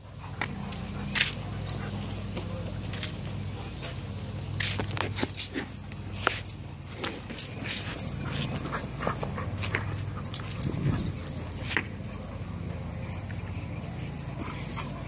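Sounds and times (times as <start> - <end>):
dogs playing rough: 0.0 - 15.0
steady low hum: 0.0 - 15.0.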